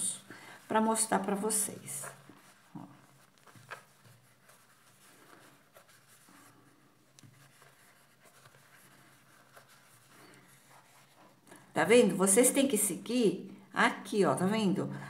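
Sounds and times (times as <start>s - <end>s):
crochet hook rustling yarn: 0.0s - 12.2s.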